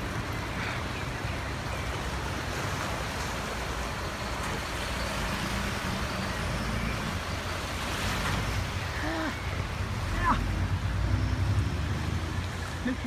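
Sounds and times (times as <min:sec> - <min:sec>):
water rushing and sloshing: 0:00.0 - 0:13.0.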